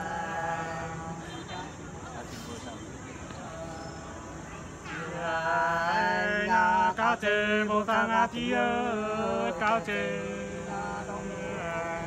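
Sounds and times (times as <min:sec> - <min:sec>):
men singing unaccompanied: 0:00.0 - 0:01.8, 0:03.3 - 0:12.0.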